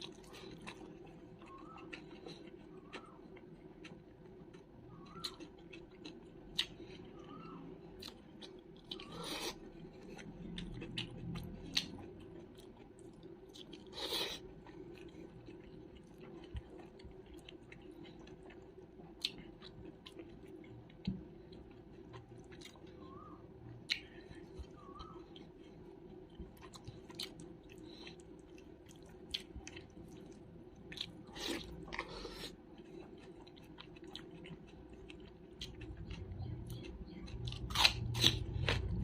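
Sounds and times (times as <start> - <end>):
close chewing: 0.0 - 39.0.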